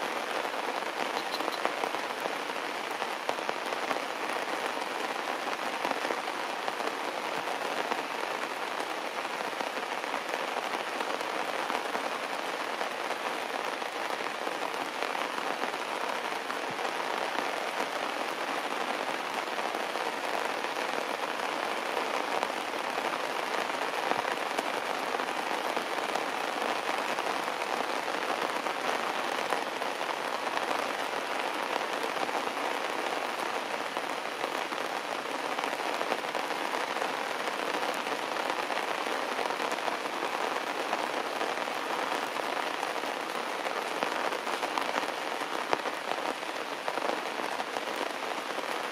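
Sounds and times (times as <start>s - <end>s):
heavy rain on stone and leaves: 0.0s - 48.9s.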